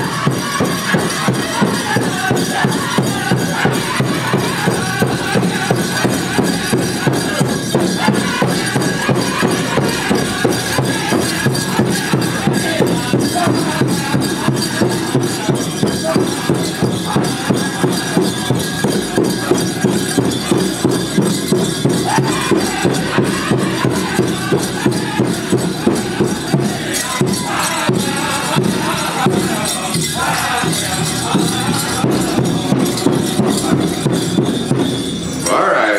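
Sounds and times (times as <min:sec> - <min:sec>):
large drum steady beat: 0:00.0 - 0:35.6
people singing: 0:00.0 - 0:35.9.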